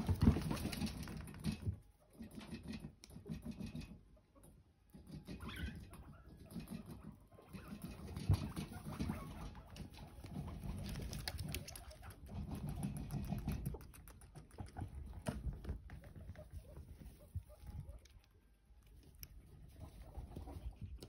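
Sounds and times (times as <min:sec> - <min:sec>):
guinea pigs purring and chutting: 0:00.0 - 0:21.0.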